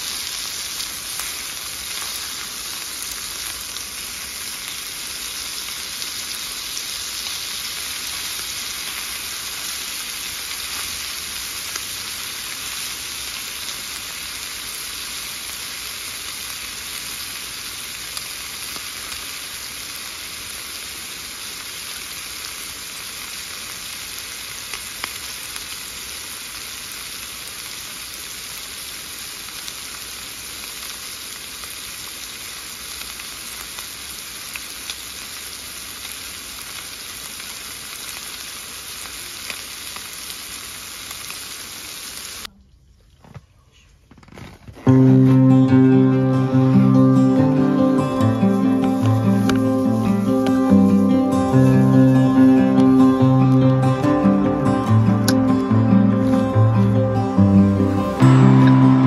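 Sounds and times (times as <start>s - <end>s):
food sizzling in a pan: 0.0s - 42.5s, 44.9s - 59.0s.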